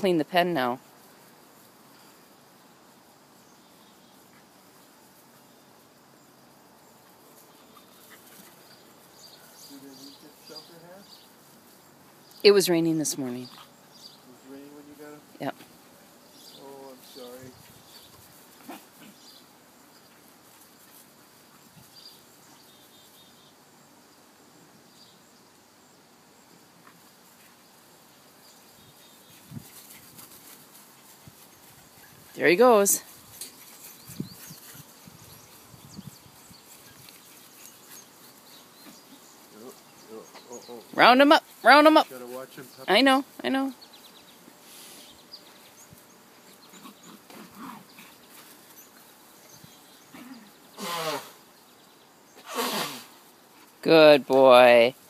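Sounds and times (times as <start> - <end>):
faint outdoor background hiss: 0.0 - 55.0
small birds chirping: 0.0 - 55.0.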